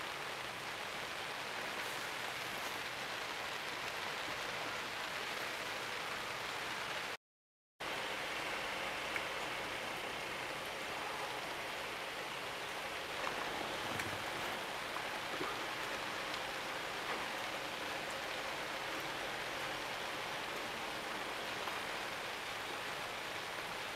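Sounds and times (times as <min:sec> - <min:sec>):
rain ticks: 0:00.0 - 0:07.2, 0:07.8 - 0:23.9
steady rain: 0:00.0 - 0:07.2, 0:07.8 - 0:23.9.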